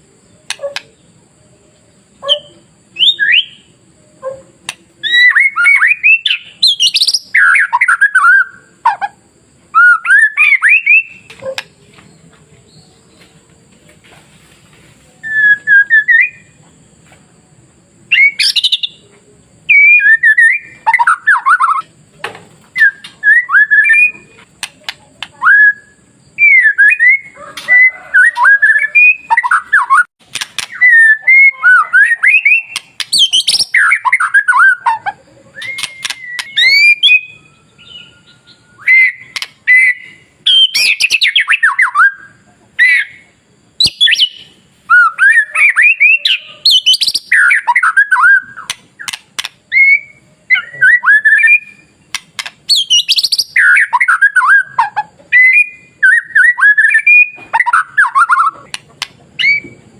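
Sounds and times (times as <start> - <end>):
bird singing whistled phrases: 2.2 - 8.8, 9.7 - 11.8, 15.2 - 16.5, 18.1 - 19.1, 19.7 - 21.9, 22.8 - 59.8.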